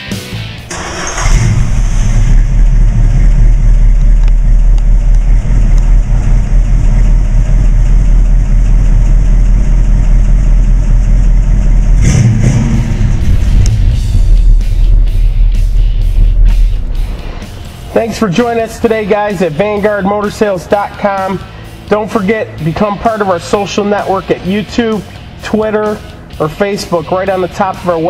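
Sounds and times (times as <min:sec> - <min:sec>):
car engine starting and idling: 0:00.3 - 0:28.0.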